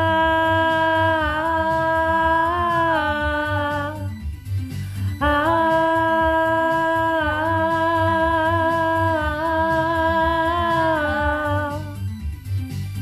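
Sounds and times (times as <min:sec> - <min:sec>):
girl singing a long note: 0:00.0 - 0:04.1, 0:05.2 - 0:12.0
backing track with steady beat: 0:00.0 - 0:13.0.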